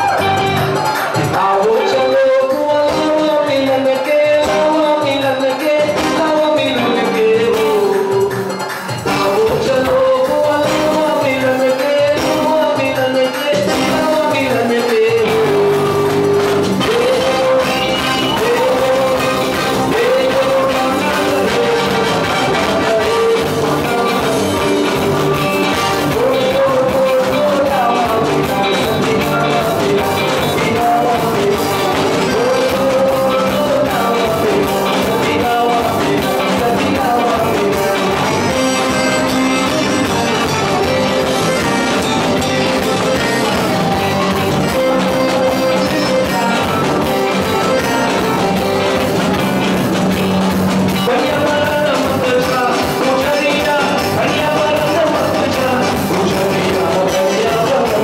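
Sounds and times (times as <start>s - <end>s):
bass guitar: 0.0s - 58.0s
keyboard: 0.0s - 58.0s
live band playing chutney music: 0.0s - 58.0s
man singing into a microphone: 0.0s - 58.0s.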